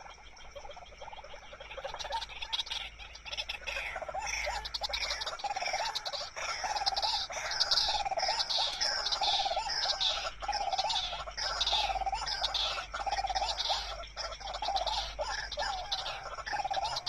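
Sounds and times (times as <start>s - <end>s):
waterhen harsh calls: 1.8s - 17.0s.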